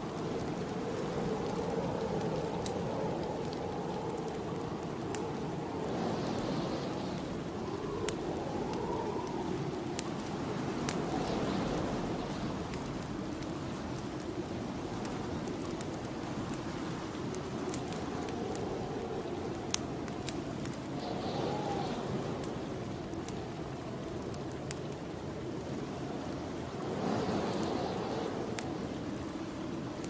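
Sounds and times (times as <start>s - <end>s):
snowstorm wind blowing: 0.0s - 30.0s
wood fire crackling and popping: 0.0s - 30.0s.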